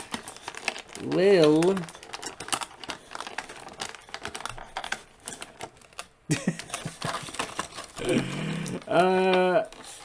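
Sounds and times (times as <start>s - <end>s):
plastic packaging clicks and taps: 0.0s - 8.0s.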